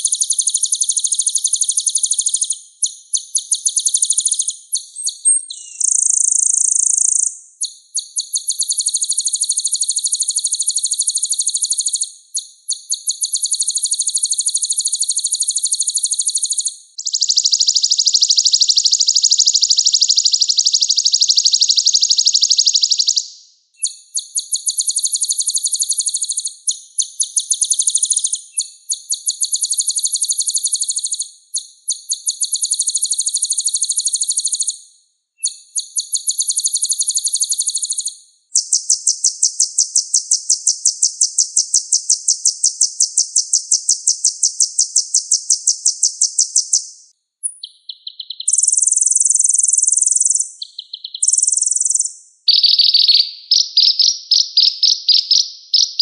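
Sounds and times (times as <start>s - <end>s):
sunbird high-pitched trill: 0.0s - 23.2s, 23.8s - 34.8s, 35.4s - 56.0s.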